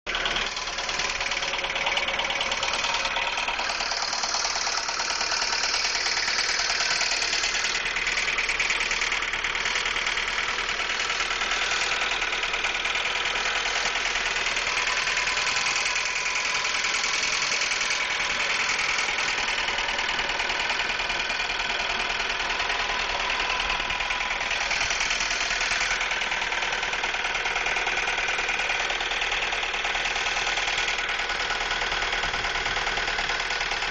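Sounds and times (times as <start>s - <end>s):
car engine idling with rattling clatter: 0.1s - 33.9s.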